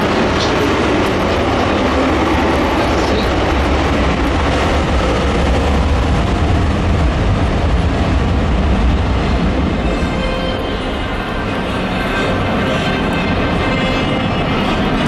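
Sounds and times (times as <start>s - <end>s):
jet engines running: 0.0s - 12.6s.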